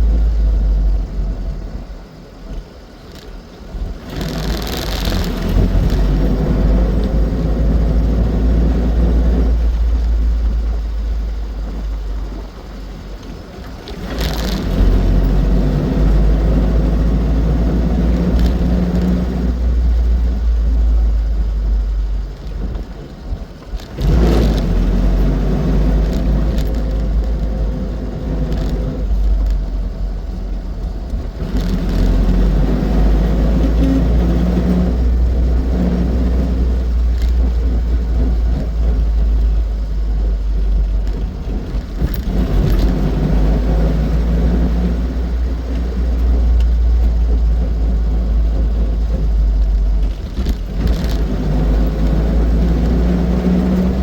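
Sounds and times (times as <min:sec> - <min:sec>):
car engine rumbling: 0:00.0 - 0:54.0
road noise: 0:00.0 - 0:54.0.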